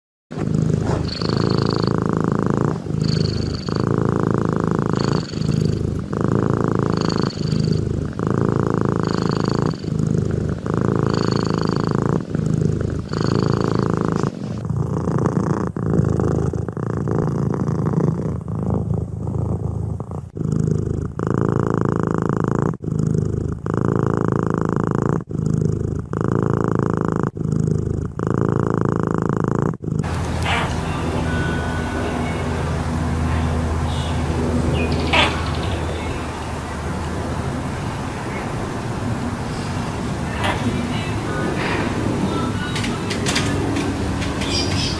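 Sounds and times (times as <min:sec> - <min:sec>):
cat purring rumble: 0:00.3 - 0:44.9.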